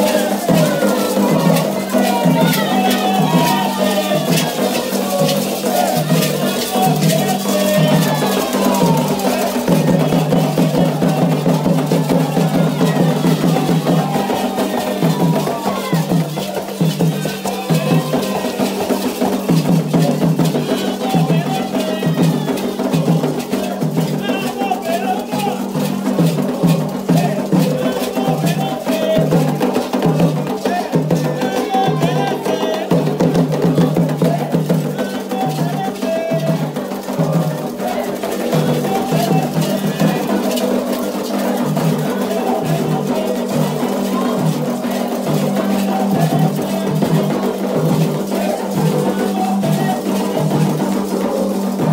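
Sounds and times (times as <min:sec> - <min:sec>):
hand drums beating: 0:00.0 - 0:51.9
sharp struck percussion: 0:00.0 - 0:51.9
voices singing: 0:00.0 - 0:51.9.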